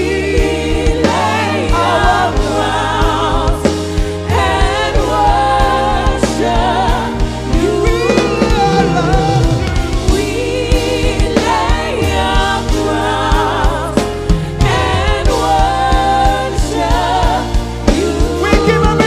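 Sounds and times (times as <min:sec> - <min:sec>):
band with bass and drums: 0:00.0 - 0:19.0
voices singing sustained notes: 0:00.0 - 0:19.0.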